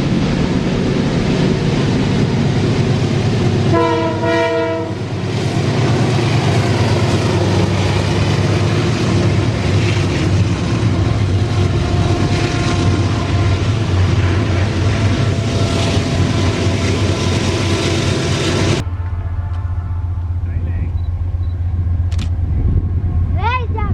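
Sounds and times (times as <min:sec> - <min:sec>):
freight train rumbling and clattering: 0:00.0 - 0:23.9.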